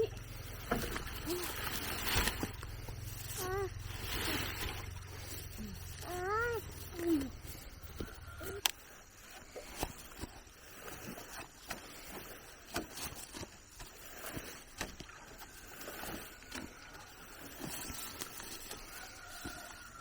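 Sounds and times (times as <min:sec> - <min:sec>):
steady rustling: 0:00.0 - 0:20.0.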